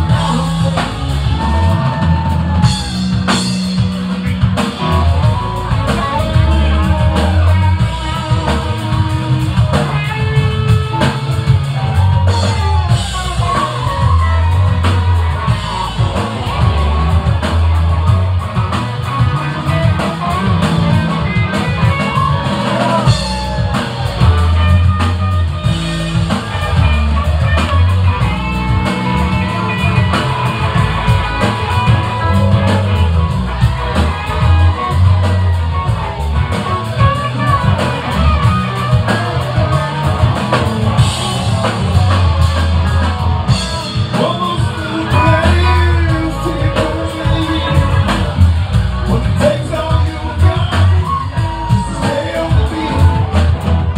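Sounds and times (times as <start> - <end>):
bass guitar: 0.0 - 53.9
drum kit: 0.0 - 53.9
electric guitars: 0.0 - 53.9.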